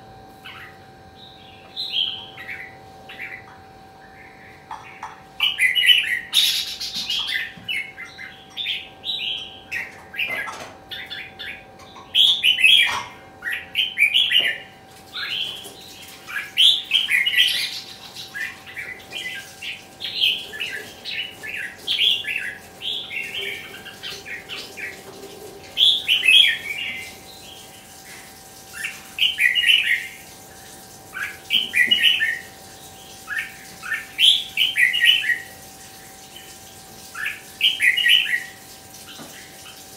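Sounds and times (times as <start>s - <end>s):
faint steady hum: 0.0s - 39.9s
bird singing warbled phrases: 0.4s - 27.8s, 28.8s - 30.2s, 31.2s - 35.6s, 37.2s - 38.6s.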